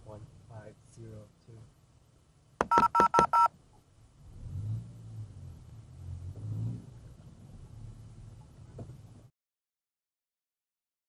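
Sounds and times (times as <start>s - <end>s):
car engine and road noise: 0.0s - 9.3s.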